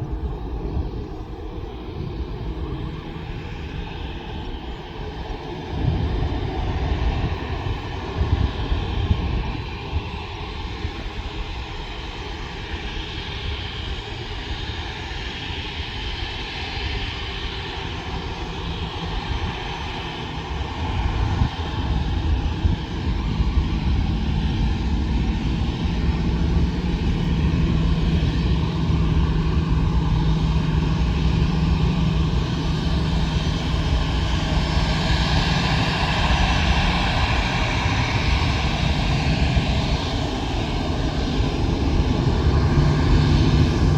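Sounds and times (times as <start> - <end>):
airplane engines running: 0.0 - 43.9.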